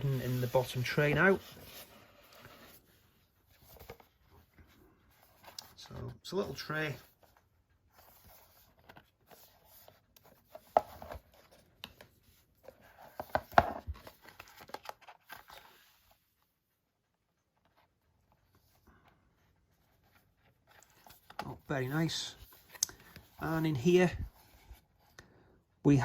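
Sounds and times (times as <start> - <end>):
cardboard rustling and crinkling: 0.0 - 25.5.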